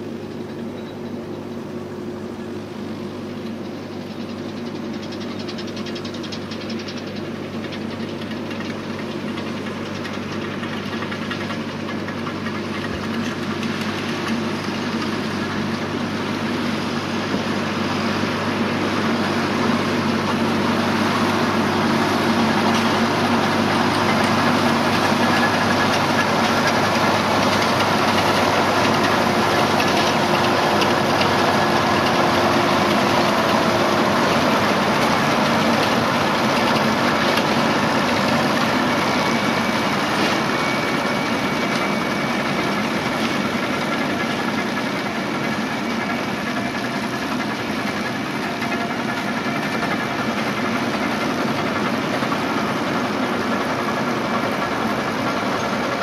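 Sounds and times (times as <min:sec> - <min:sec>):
round baler baling: 0:00.0 - 0:56.0
tractor diesel engine running: 0:00.0 - 0:56.0.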